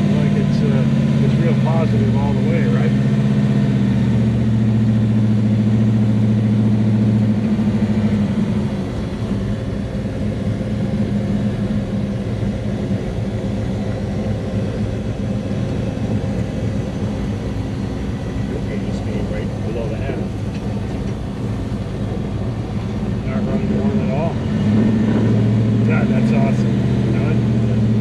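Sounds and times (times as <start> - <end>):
car engine drone from inside: 0.0 - 28.0.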